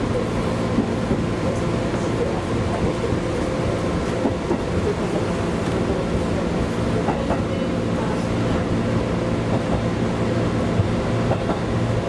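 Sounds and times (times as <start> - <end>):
electric train running hum: 0.0 - 12.0.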